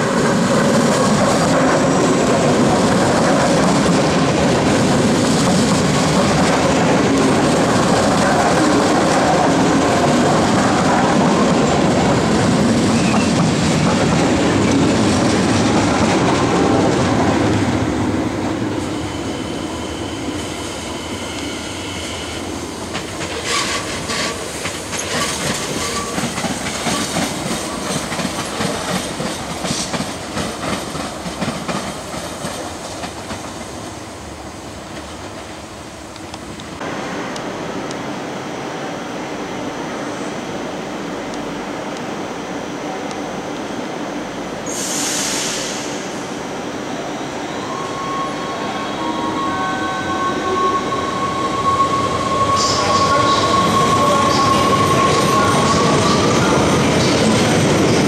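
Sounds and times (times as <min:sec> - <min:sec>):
train rumble: 0:00.0 - 0:47.3, 0:48.0 - 0:58.0
train high whine: 0:00.0 - 0:58.0.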